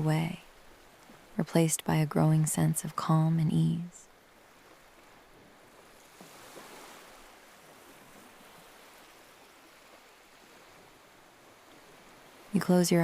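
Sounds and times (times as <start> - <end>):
faint ocean surf: 0.0 - 13.0.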